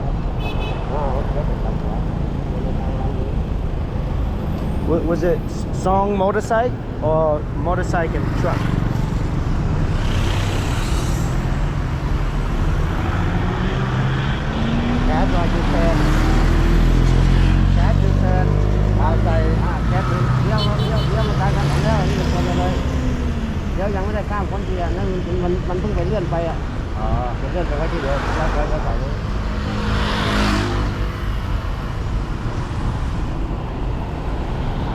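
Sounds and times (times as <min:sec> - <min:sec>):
road traffic noise: 0:00.0 - 0:34.9.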